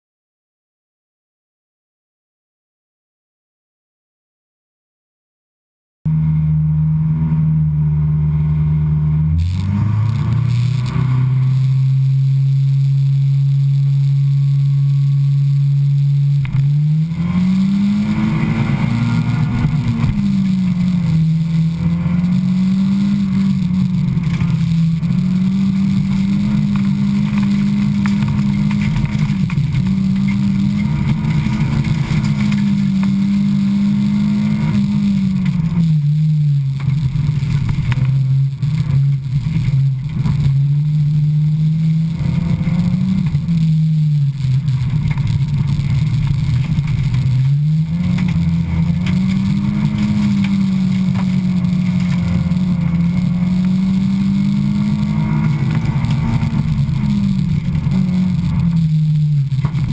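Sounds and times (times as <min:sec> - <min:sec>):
race car engine revving: 0:06.1 - 0:59.9.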